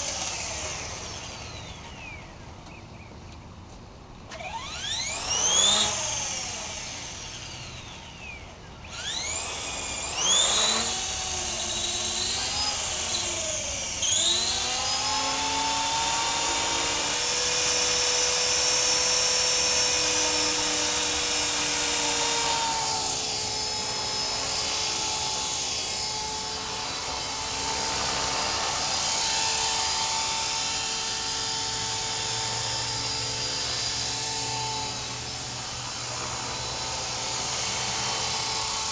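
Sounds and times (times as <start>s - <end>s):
rc helicopter motor whining: 0.0s - 2.6s, 4.3s - 38.9s.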